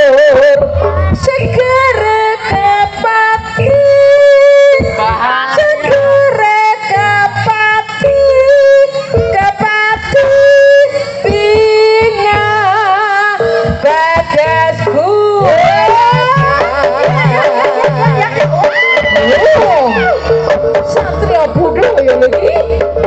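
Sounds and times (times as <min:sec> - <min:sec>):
low drum beat: 0:00.5 - 0:23.0.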